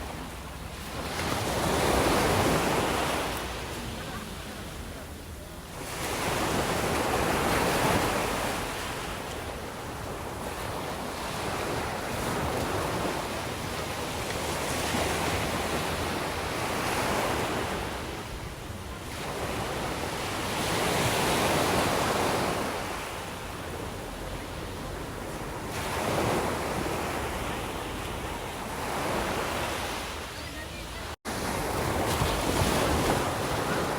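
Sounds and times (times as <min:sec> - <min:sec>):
sea waves breaking on shore: 0:00.0 - 0:33.9.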